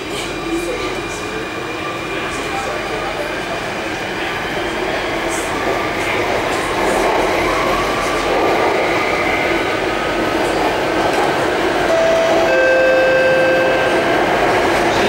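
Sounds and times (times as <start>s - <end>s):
metro train running noise: 0.0s - 15.0s.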